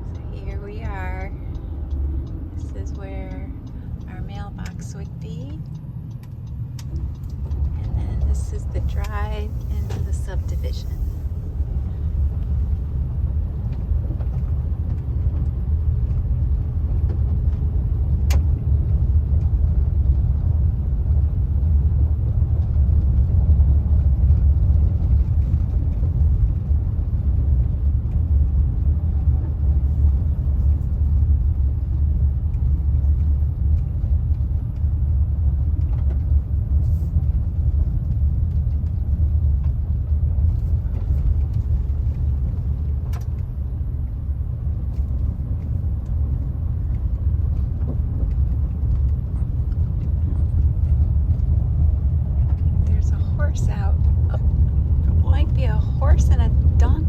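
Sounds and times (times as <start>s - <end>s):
car tyre and engine rumble: 0.0s - 57.0s.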